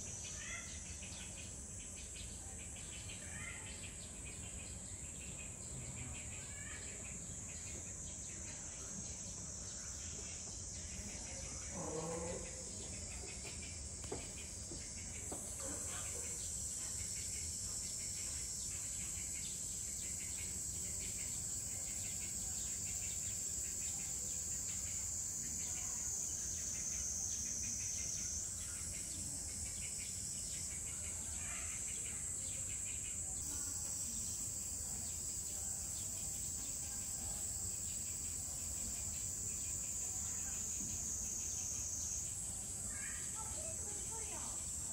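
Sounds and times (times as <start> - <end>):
cicadas droning: 0.0 - 44.9.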